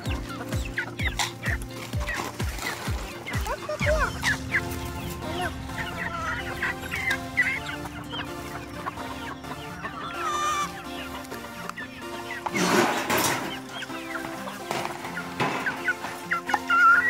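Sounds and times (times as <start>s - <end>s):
background music with held notes: 0.0s - 17.0s
chickens clucking: 0.0s - 17.0s.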